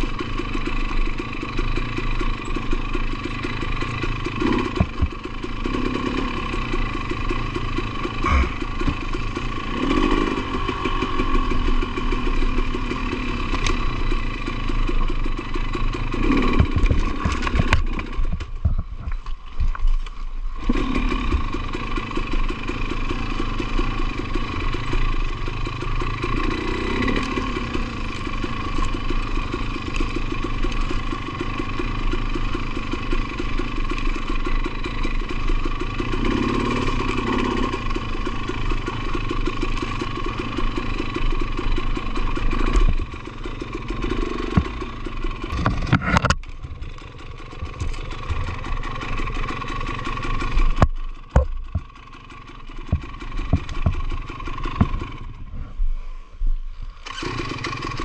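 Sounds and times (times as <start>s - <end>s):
motorcycle clatter: 0.0s - 55.5s, 57.0s - 58.0s
two-stroke motorcycle engine: 0.0s - 58.0s.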